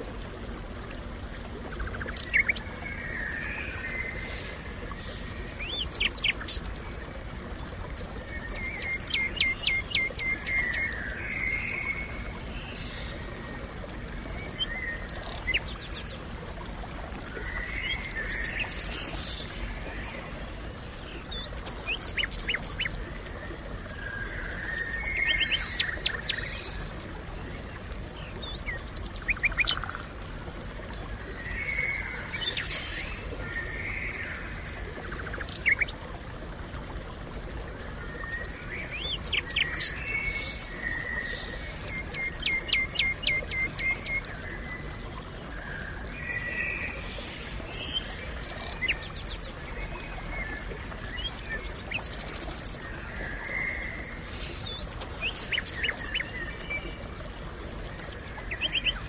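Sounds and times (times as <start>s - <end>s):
birds singing: 0.0s - 16.6s, 17.2s - 26.9s, 27.8s - 36.2s, 38.0s - 59.0s.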